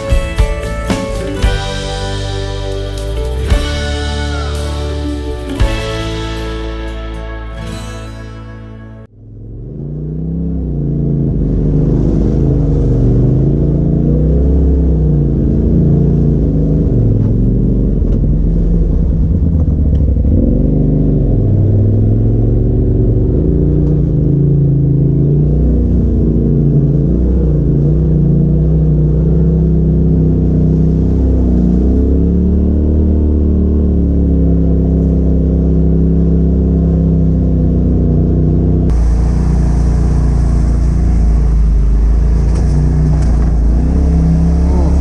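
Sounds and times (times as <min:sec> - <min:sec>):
utility vehicle engine revving: 0:00.0 - 0:45.0.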